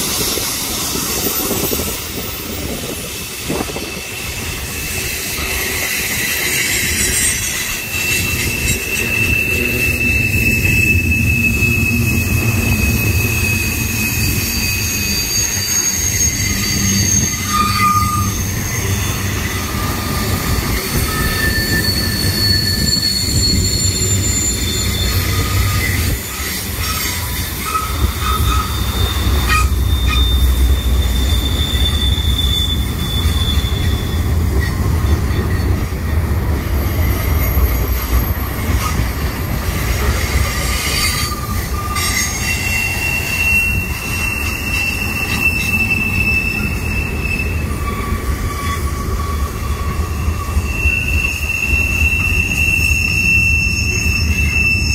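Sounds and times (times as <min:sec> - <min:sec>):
low rumble of train wheels: 0:00.0 - 0:54.9
wheel flanges squealing on rail: 0:00.0 - 0:54.9.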